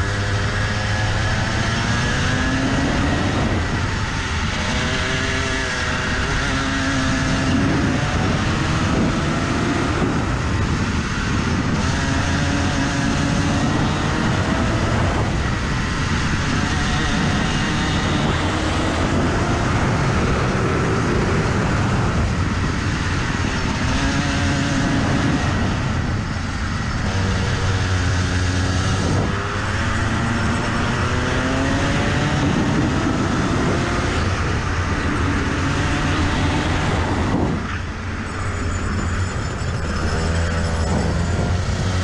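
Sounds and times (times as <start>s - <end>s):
kart engine revving: 0.0s - 42.0s.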